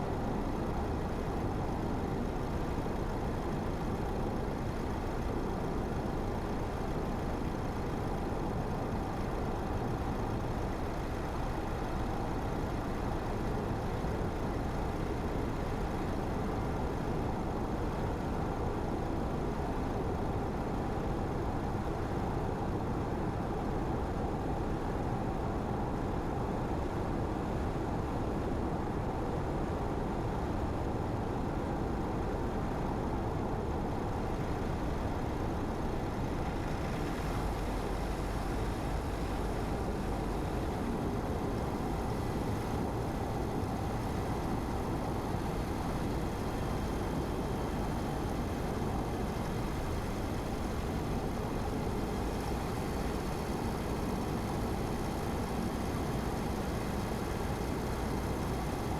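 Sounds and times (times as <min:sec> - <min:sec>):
car engine and tyre hum: 0:00.0 - 0:58.9.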